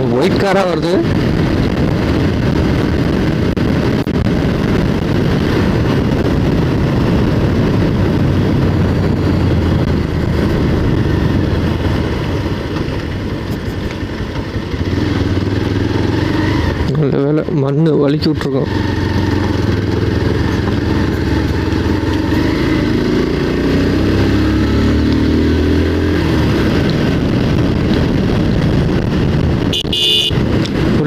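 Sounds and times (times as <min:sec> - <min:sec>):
motorcycle engine running: 0:00.0 - 0:31.0
wind and road noise: 0:00.0 - 0:31.0.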